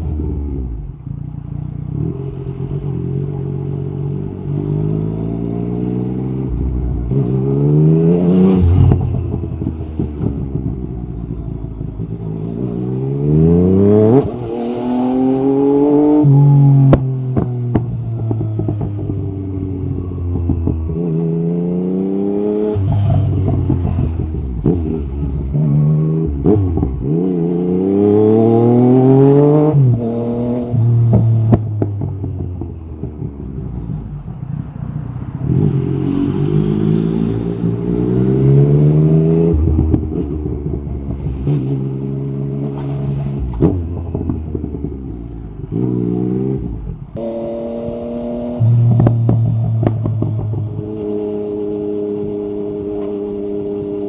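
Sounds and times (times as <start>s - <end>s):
motorcycle engine revving: 1.8s - 54.0s.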